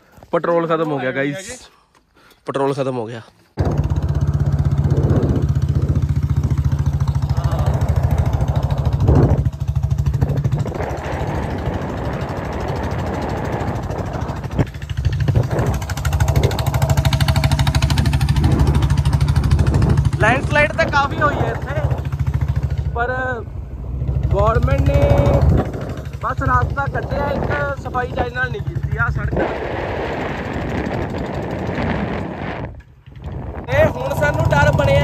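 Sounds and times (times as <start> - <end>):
motorcycle engine running: 3.6 - 35.0.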